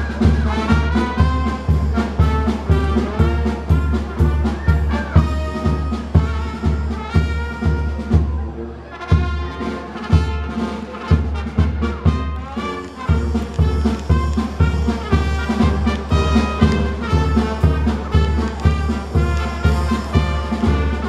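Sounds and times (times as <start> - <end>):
brass band music: 0.0 - 21.0.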